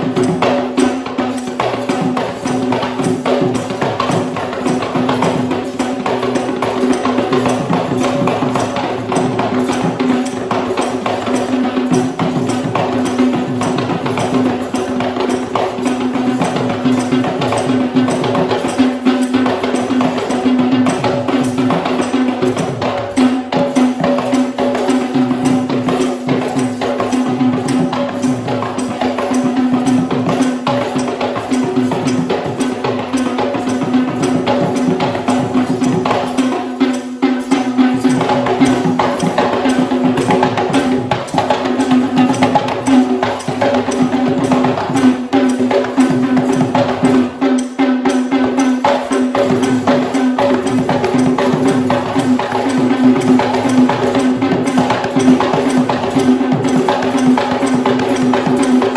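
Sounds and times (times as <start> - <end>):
fast hand drumming: 0.0 - 58.9
jingling percussion: 0.0 - 58.9.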